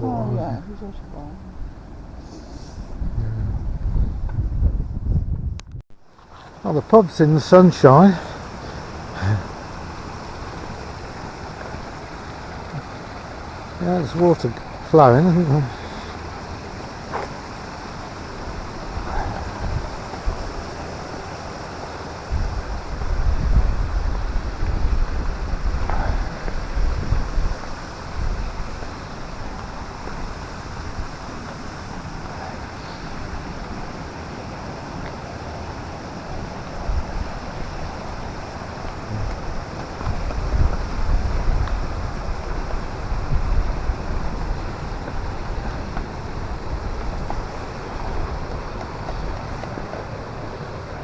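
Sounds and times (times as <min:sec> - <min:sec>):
wind buffeting microphone: 0:02.8 - 0:05.8, 0:08.5 - 0:51.0
flowing canal water: 0:06.0 - 0:51.0.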